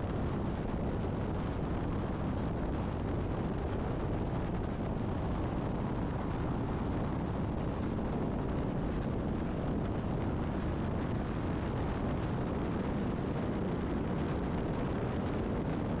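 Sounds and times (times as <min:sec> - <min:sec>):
wind buffeting camera: 0:00.0 - 0:16.0.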